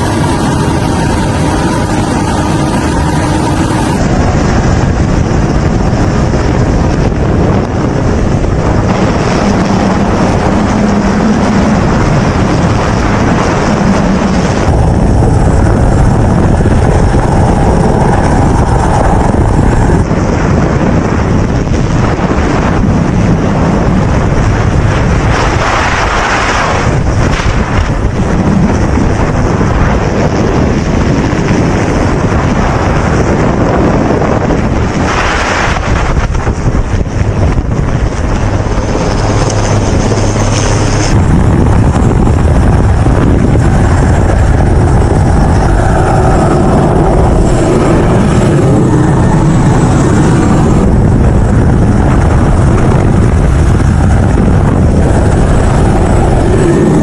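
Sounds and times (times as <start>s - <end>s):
rushing sea: 0.0s - 57.0s
storm wind buffeting microphone: 0.0s - 57.0s.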